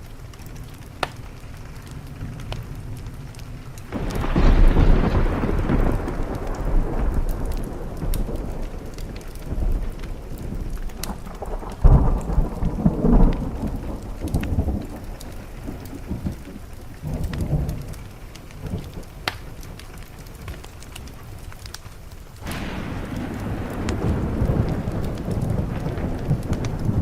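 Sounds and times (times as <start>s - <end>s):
thunder rumbling: 0.0s - 21.5s, 22.4s - 27.0s
steady rain: 0.0s - 27.0s.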